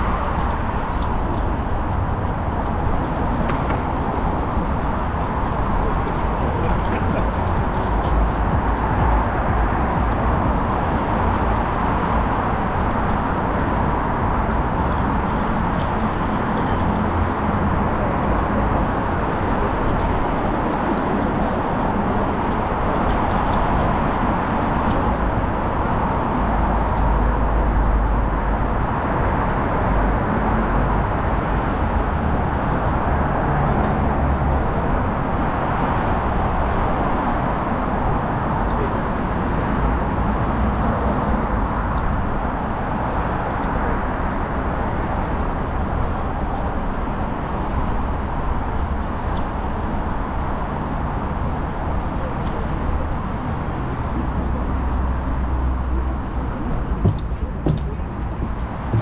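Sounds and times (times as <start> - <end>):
city street traffic: 0.0 - 59.0.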